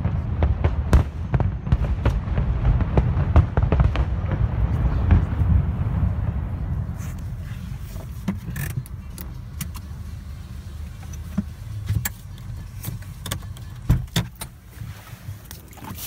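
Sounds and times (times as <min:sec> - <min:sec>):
car interior rumble: 0:00.0 - 0:16.0.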